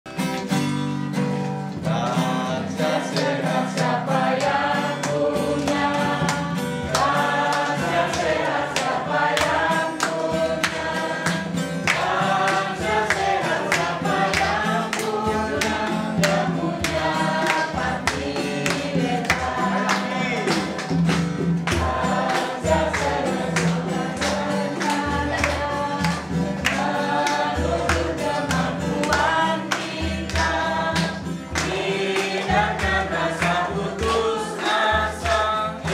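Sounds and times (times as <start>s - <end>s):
instrumental accompaniment with beat: 0.1s - 35.9s
men and women singing together: 1.8s - 35.9s.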